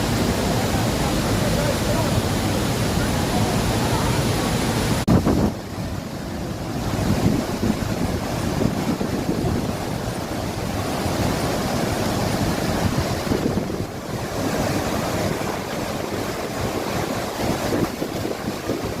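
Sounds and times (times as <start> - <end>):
waterfall roaring: 0.0 - 19.0
wind buffeting microphone: 2.2 - 19.0.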